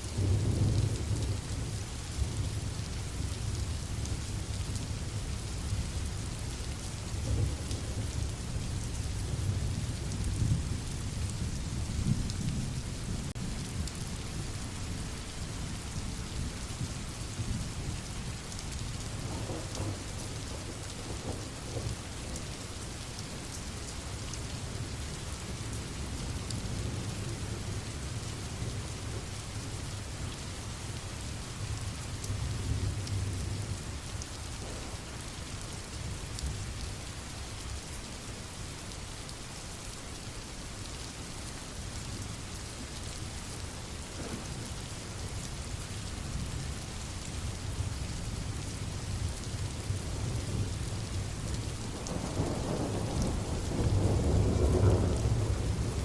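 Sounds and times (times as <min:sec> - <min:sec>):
rain: 0:00.0 - 0:56.0.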